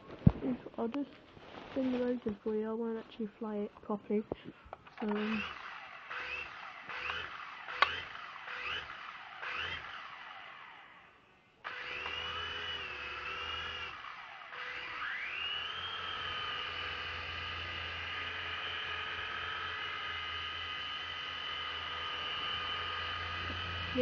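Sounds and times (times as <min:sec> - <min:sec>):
rotor motors whining: 0:04.8 - 0:24.0.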